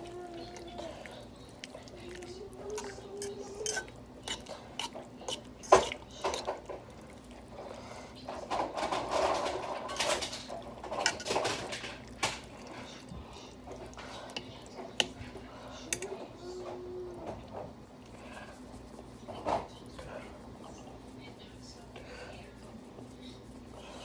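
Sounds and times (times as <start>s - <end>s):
wet stirring of thick food: 0.0s - 24.0s.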